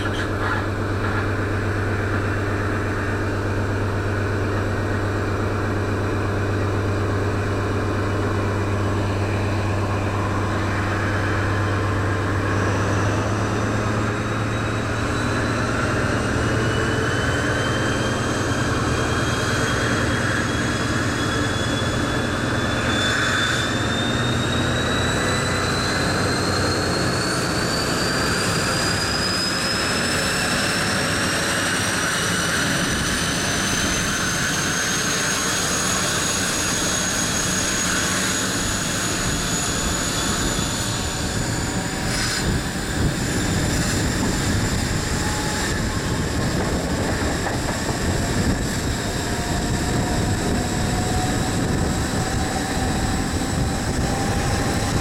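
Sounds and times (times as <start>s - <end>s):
turbocharger whistle: 0.0s - 55.0s.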